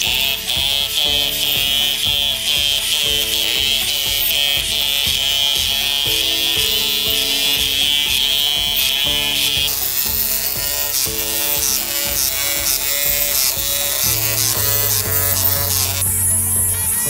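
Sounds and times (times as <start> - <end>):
background music: 0.0 - 17.0
electric hammer rattling: 0.0 - 17.0.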